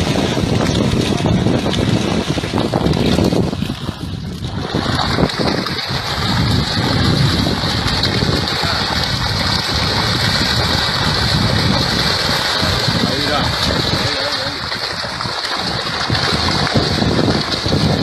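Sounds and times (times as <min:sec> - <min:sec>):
water splashing and churning: 0:00.0 - 0:18.0
wind noise on microphone: 0:00.0 - 0:18.0.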